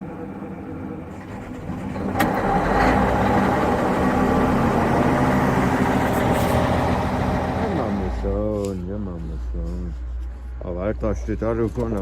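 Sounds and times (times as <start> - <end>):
diesel engine running: 0.0 - 10.5.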